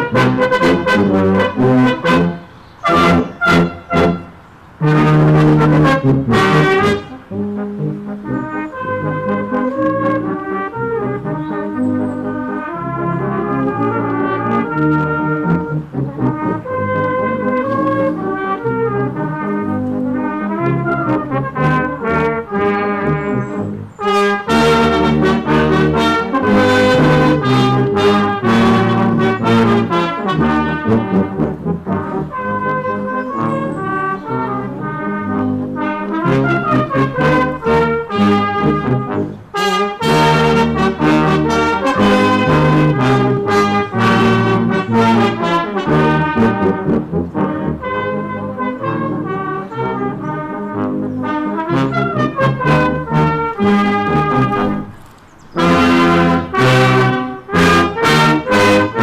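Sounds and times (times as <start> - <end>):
brass band playing chords: 0.0 - 59.0.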